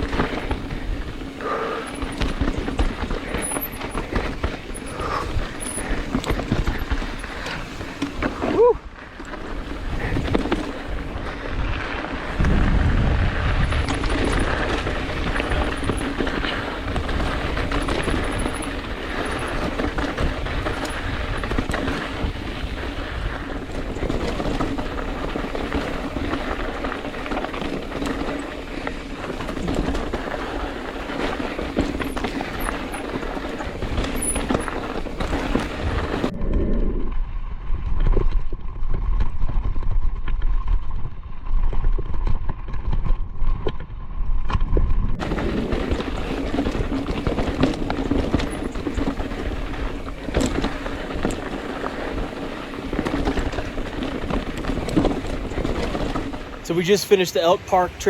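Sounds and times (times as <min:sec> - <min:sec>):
bike rattling: 0:00.0 - 0:58.0.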